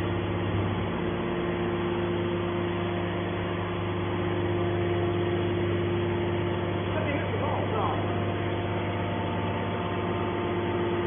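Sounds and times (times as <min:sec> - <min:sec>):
baler mechanical drone: 0:00.0 - 0:11.0.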